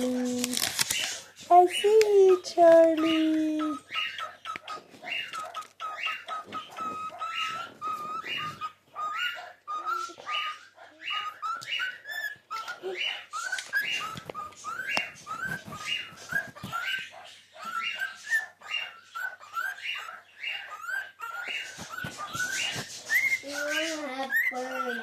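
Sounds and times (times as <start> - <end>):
cockatiel chirping: 0.6 - 25.0.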